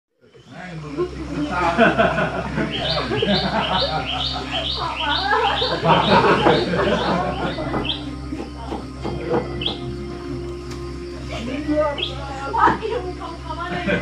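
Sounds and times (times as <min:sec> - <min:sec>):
lower animal calls or voices: 0:00.2 - 0:14.0
high rising chirps: 0:00.3 - 0:13.7.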